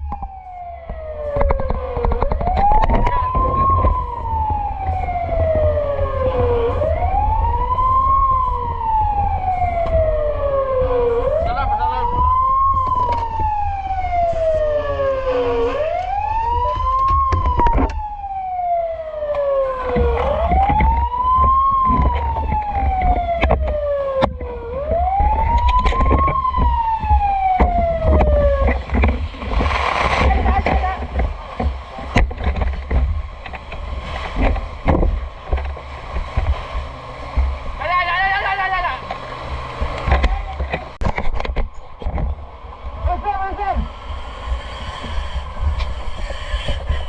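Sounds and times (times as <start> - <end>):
fire truck siren wailing: 0.0 - 47.0.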